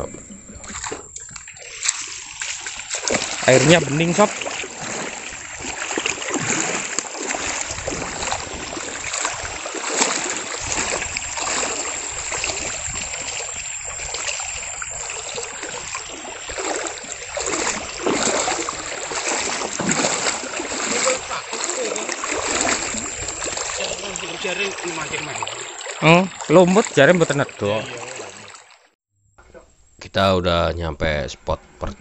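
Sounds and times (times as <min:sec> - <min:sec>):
wading splashes: 0:00.0 - 0:29.8
river water rushing: 0:01.6 - 0:28.8.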